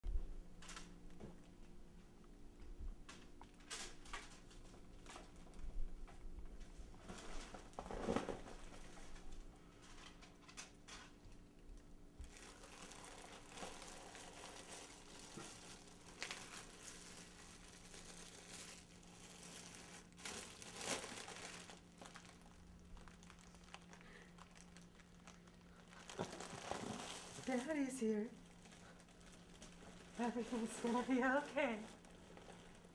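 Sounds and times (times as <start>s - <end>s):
faint steady hum: 0.0s - 32.9s
foil balloon crinkling: 3.1s - 11.5s, 12.2s - 32.9s.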